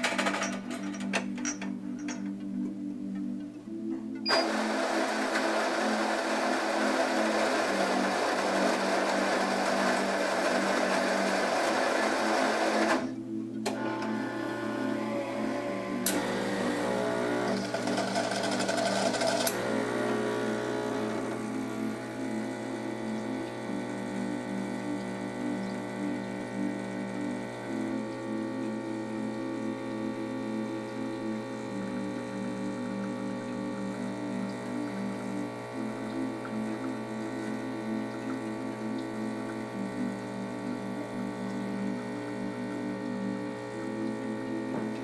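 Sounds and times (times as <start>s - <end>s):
espresso pump buzzing hum: 1.5s - 45.0s
coffee grinder running: 4.3s - 45.0s.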